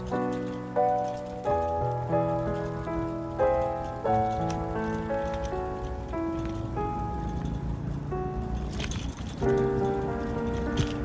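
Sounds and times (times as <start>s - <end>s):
short rustling: 0.0s - 11.0s.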